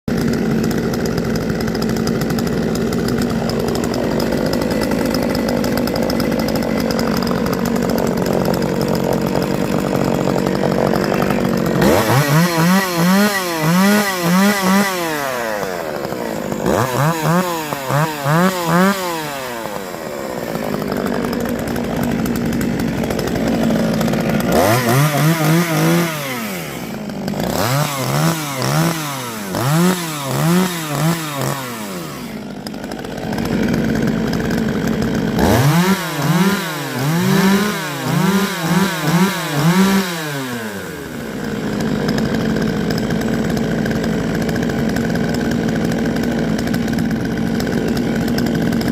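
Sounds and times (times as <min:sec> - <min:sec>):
chainsaw idling and revving: 0:00.0 - 0:48.9.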